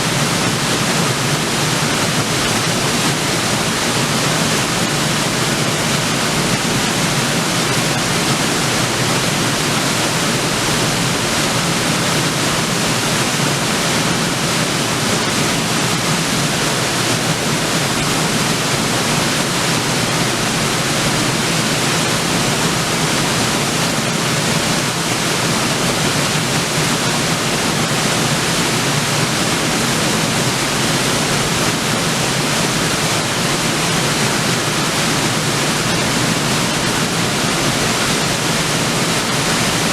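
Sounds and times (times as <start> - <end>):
waterfall onto rocks: 0.0 - 39.9.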